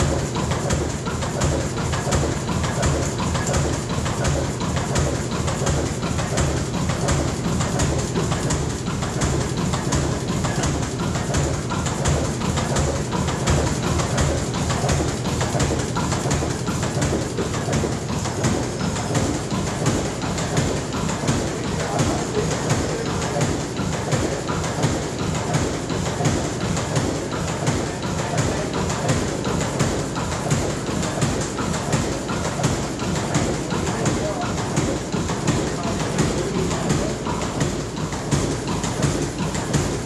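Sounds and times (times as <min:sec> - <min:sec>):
diesel engine pulsing beat: 0:00.0 - 0:40.0.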